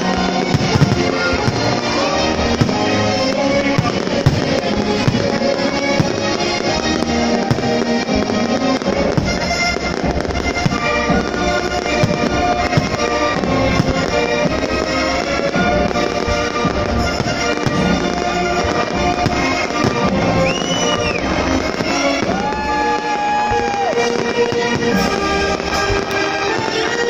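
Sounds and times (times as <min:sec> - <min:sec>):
fireworks bangs and crackles: 0:00.0 - 0:27.0
loud music: 0:00.0 - 0:27.0.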